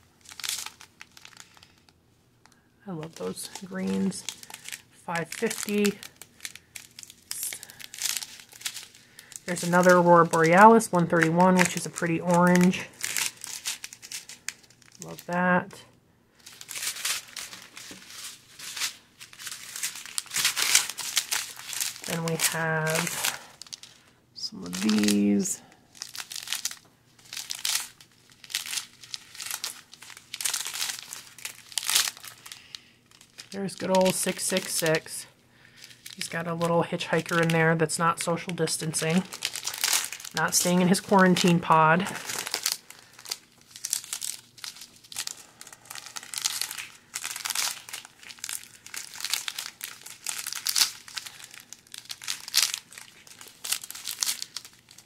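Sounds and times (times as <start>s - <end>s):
plastic bags crinkling: 0.0s - 15.8s, 16.4s - 55.0s.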